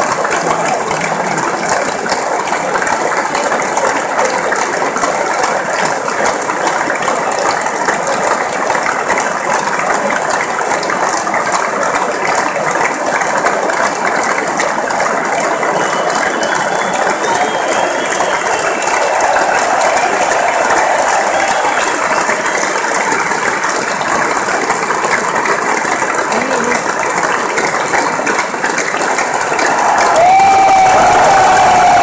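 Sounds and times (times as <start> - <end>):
stadium crowd applauding: 0.0 - 32.0.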